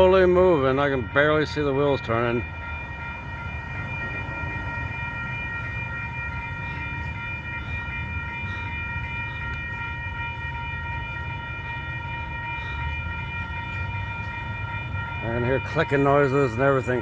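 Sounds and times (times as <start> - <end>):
constant high whine: 0.0 - 17.0
train low rumble: 0.0 - 17.0.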